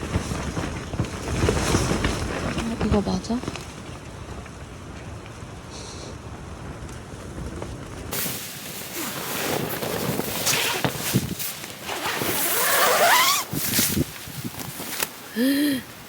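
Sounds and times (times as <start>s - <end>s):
tent fabric flapping: 0.0s - 5.5s, 6.4s - 16.0s
rain: 0.0s - 13.4s, 14.1s - 16.0s
strong wind buffeting tent: 0.0s - 16.0s.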